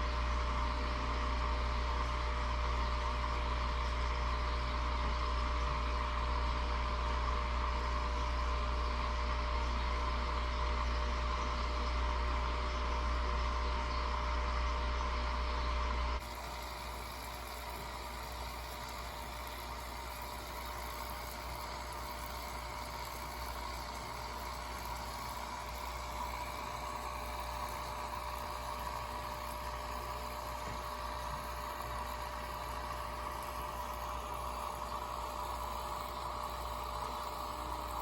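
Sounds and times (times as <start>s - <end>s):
background hum and hiss: 0.0s - 38.0s.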